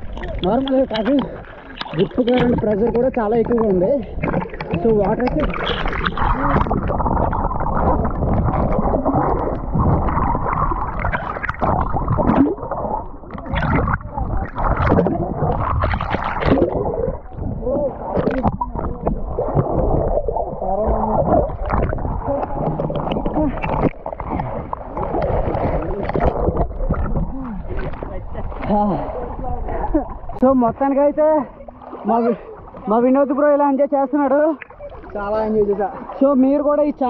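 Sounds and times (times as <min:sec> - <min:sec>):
muffled underwater gurgling: 0:00.0 - 0:33.0
water splashes: 0:00.0 - 0:37.0.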